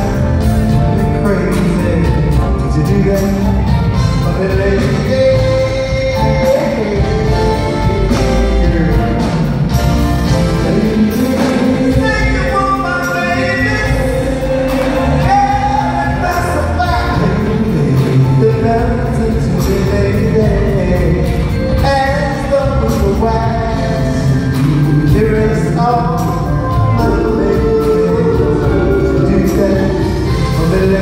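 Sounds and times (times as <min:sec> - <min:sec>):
band playing: 0:00.0 - 0:31.0
male vocal group singing: 0:04.2 - 0:31.0.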